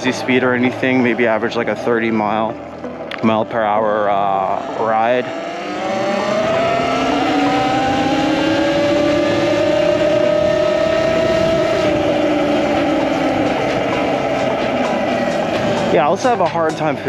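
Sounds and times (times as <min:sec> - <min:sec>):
electric motor whine: 0:00.0 - 0:15.9
road and wind noise: 0:00.0 - 0:17.0.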